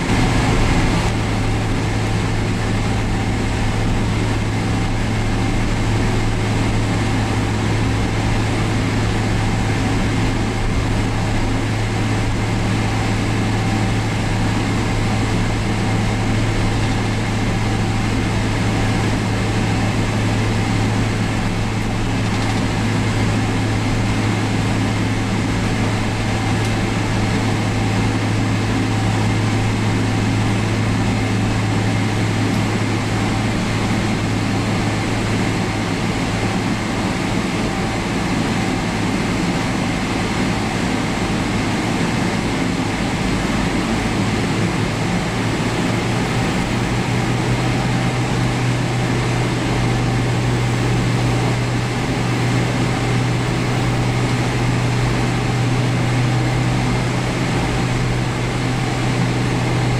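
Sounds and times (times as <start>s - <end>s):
aircraft cabin hum: 0.0s - 59.9s.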